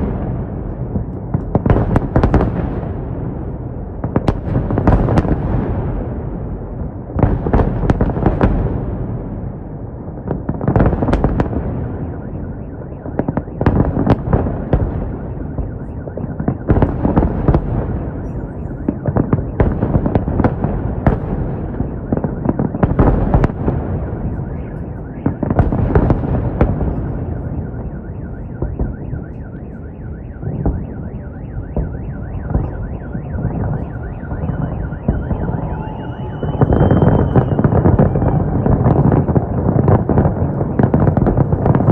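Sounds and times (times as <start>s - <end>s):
fireworks bangs and crackle: 0.0s - 41.9s.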